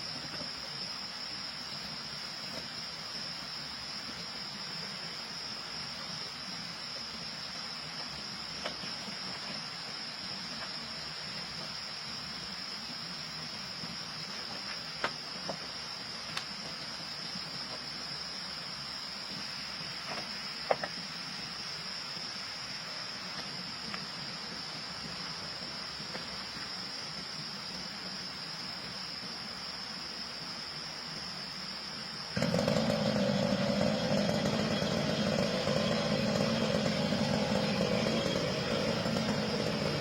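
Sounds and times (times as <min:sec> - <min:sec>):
trilling insects chorus: 0:00.0 - 0:40.0.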